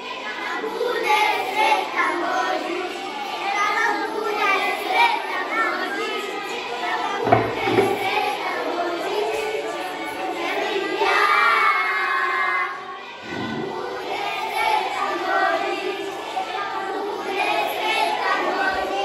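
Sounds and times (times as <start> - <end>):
children singing together: 0.0 - 19.0.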